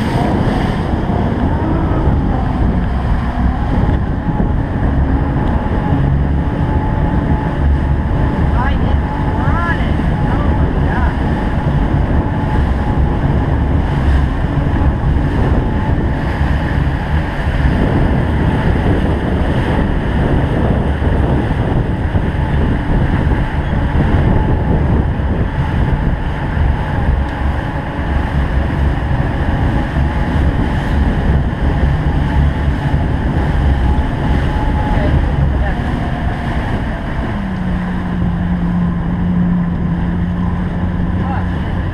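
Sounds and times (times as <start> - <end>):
wind noise on microphone: 0.0 - 41.9.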